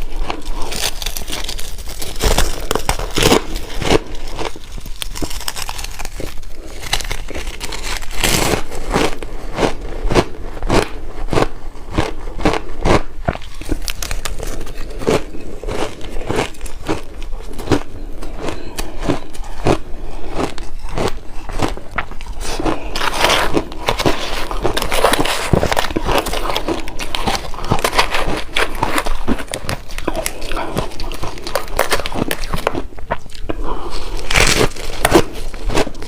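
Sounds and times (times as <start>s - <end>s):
shaved ice crunching when chewed: 0.0s - 36.0s.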